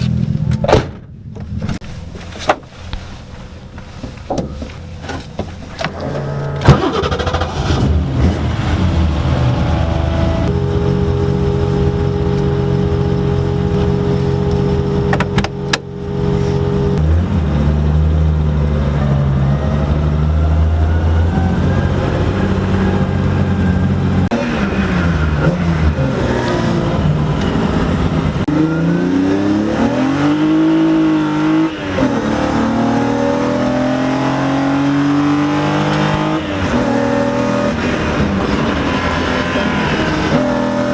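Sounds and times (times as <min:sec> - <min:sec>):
car engine revving: 0:05.7 - 0:40.9.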